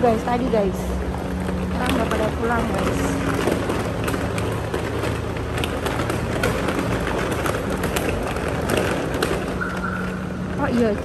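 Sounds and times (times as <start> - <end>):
shopping trolley rattling on concrete: 0.0 - 11.0.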